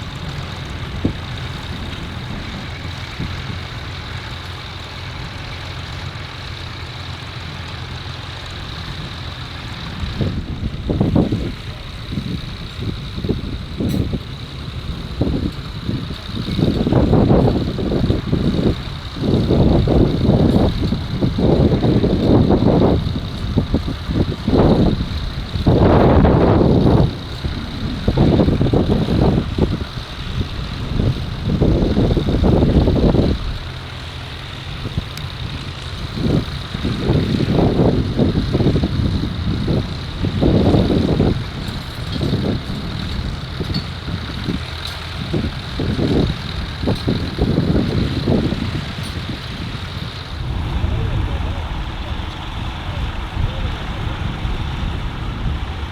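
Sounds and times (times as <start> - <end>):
tractor engine running: 0.0 - 55.9
wind buffeting microphone: 0.0 - 55.9.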